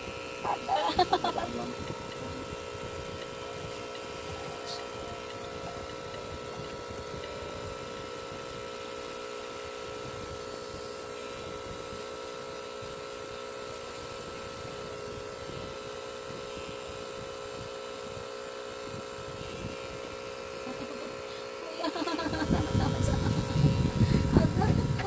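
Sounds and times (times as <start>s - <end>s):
tattoo machine motor hum: 0.0s - 25.0s.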